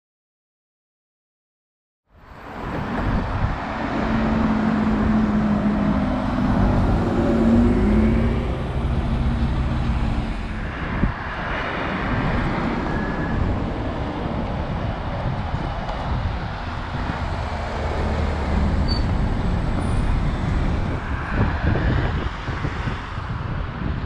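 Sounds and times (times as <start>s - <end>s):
road rumble: 2.1s - 24.0s
bus engine hum: 2.2s - 24.0s
car passing: 2.3s - 23.4s.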